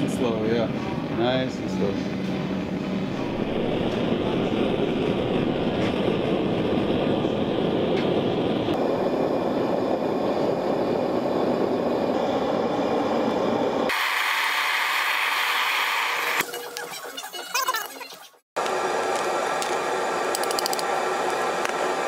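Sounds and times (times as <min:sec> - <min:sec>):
gas forge burner roaring: 0:00.0 - 0:16.4, 0:18.6 - 0:22.0.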